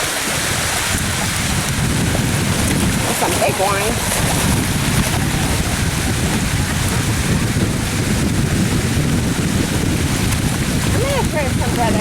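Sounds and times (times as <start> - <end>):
water rushing from spillway: 0.0 - 12.0
wind buffeting microphone: 0.0 - 12.0.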